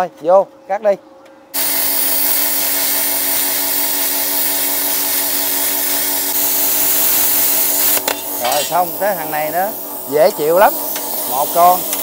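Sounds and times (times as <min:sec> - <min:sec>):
compressor hum: 0:01.2 - 0:12.0
plasma cutter hissing: 0:01.6 - 0:12.0.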